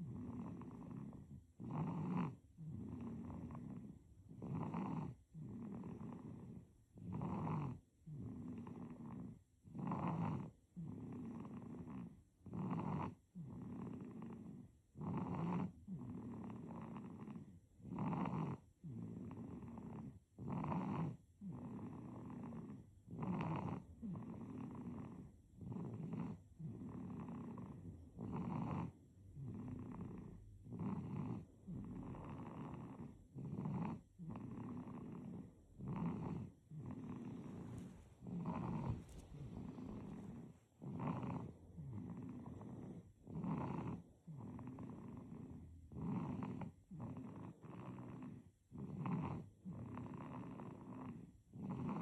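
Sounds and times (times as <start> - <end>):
baby snoring: 0.0 - 52.0.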